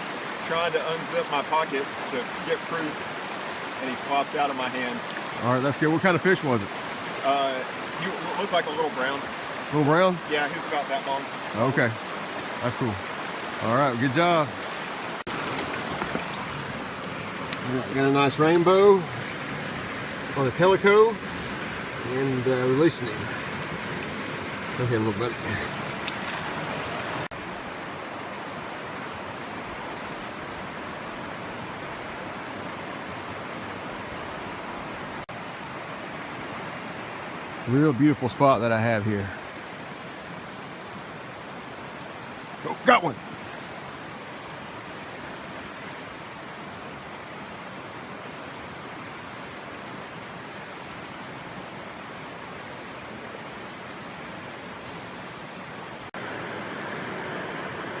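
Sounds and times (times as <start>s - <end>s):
rushing stream water: 0.0s - 58.0s.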